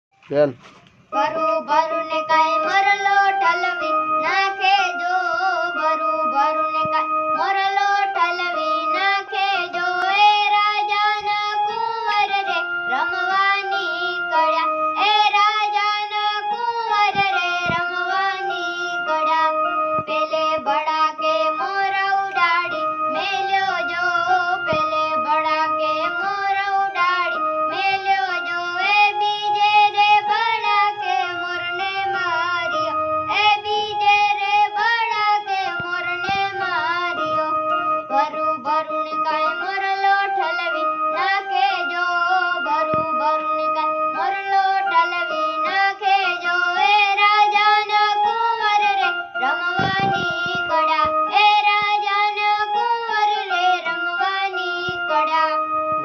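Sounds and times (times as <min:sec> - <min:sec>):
boy singing: 0:00.3 - 0:56.0
electronic keyboard notes: 0:00.3 - 0:56.0.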